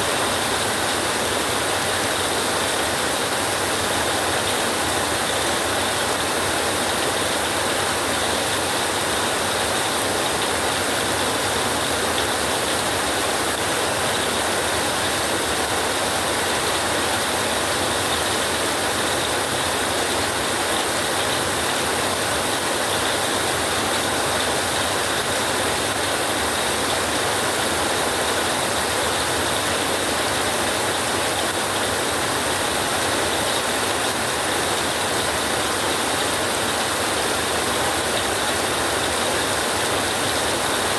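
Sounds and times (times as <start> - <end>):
rain drumming on a tin roof: 0.5 - 40.9.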